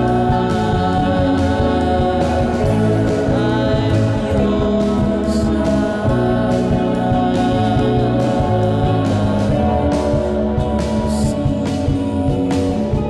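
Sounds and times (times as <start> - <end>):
indie pop song: 0.0 - 13.0.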